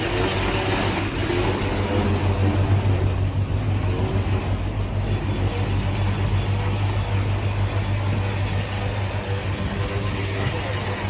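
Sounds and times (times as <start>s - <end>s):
boat engine humming: 0.0s - 11.0s
rush of wind and water: 0.0s - 11.0s.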